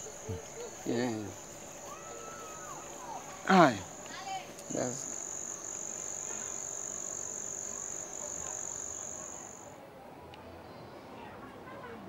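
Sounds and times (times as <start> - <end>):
cricket trilling: 0.0 - 9.7.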